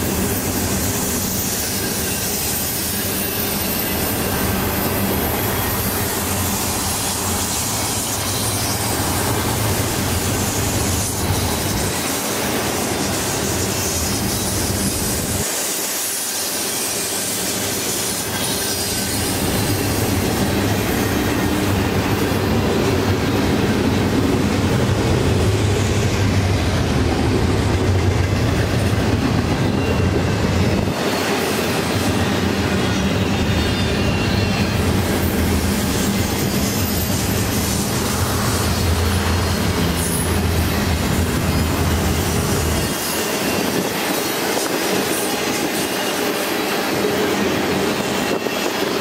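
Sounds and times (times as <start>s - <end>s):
freight train wheels on rail: 0.0s - 49.0s.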